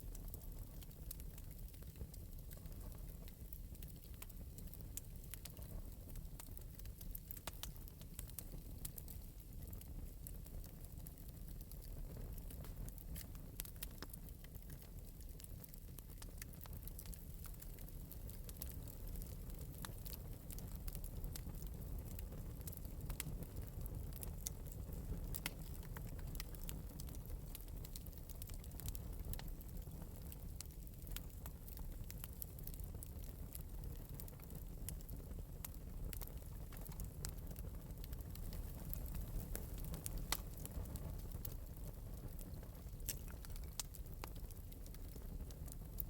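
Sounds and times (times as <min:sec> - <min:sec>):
fire popping and snapping: 0:00.0 - 0:46.0
low rumble of flames: 0:00.0 - 0:46.0.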